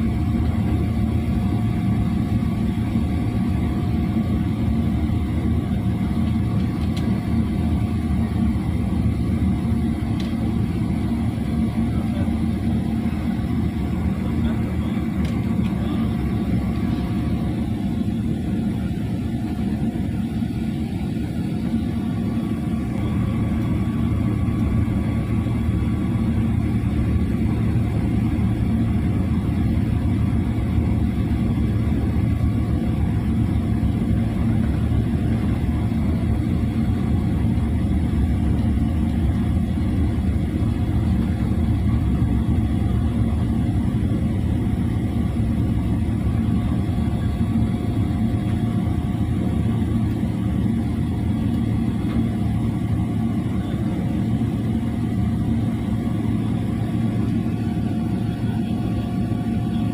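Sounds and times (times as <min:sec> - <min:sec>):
faint steady whine: 0:00.0 - 0:59.9
jet engine rumble: 0:00.0 - 0:59.9.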